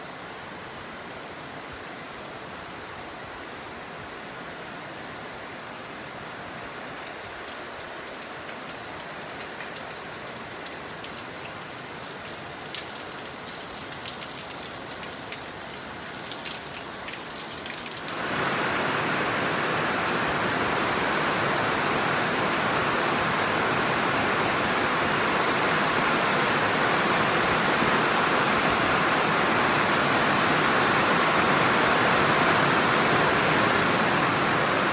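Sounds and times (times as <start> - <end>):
rain falling: 2.9 - 34.9.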